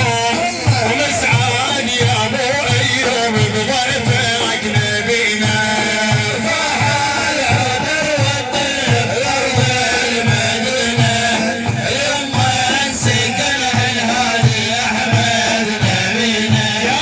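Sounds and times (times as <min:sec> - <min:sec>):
repeating low drum rhythm: 0:00.0 - 0:17.0.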